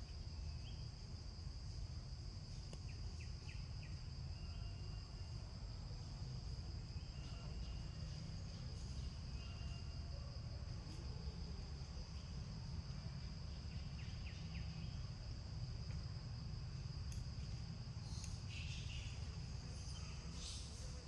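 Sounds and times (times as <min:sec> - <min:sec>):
high insect drone: 0:00.0 - 0:21.0
low background rumble: 0:00.0 - 0:21.0.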